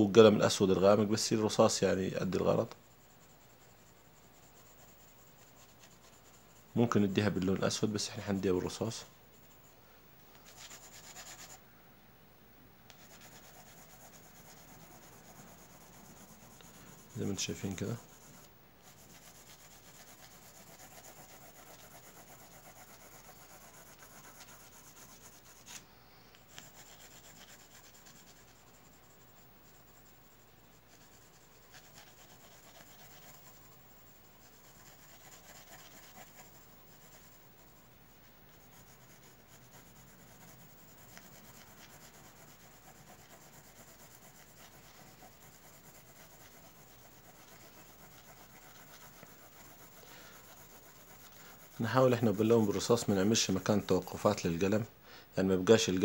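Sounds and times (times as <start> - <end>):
pencil scratching on paper: 0.0 - 11.6, 12.9 - 54.8.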